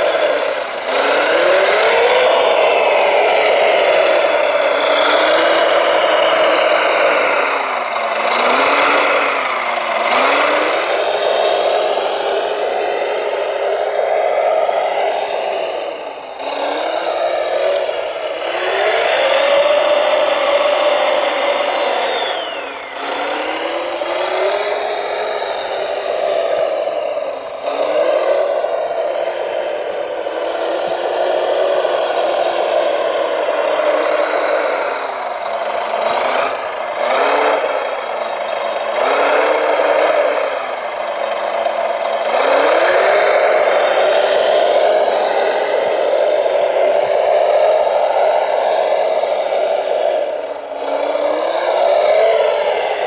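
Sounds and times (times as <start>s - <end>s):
toy vehicle motors whining: 0.0s - 53.0s.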